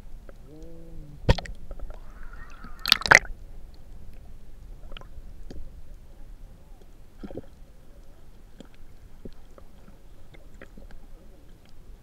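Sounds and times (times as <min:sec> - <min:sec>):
underwater sloshing and gurgling: 0:00.0 - 0:12.0.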